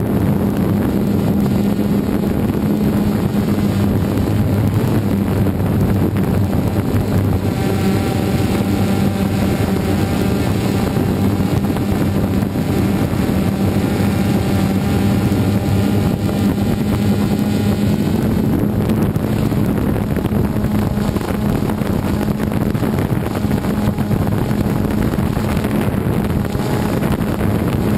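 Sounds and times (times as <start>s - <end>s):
drone propellers buzzing: 0.0s - 27.9s
wind rushing over microphone: 0.0s - 27.9s.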